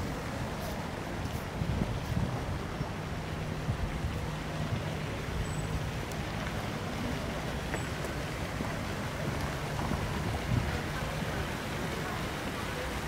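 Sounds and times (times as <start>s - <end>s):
distant traffic: 2.2s - 13.0s.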